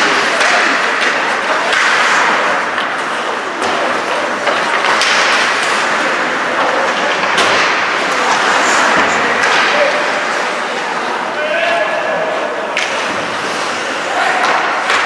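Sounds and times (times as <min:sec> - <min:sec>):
hockey sticks and puck clacking: 0:00.0 - 0:15.0
skates scraping ice: 0:00.0 - 0:15.0.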